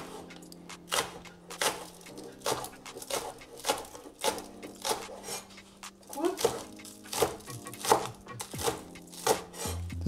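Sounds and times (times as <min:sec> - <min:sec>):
cleaver chopping on wooden board: 0:00.9 - 0:05.4, 0:06.2 - 0:09.9.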